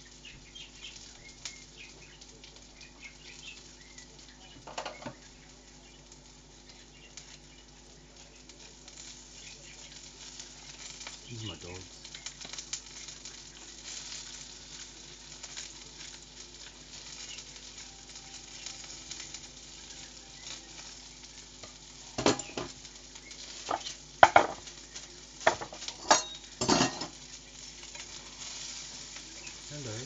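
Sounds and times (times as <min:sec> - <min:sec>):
food sizzling in a pan: 0:00.0 - 0:30.0.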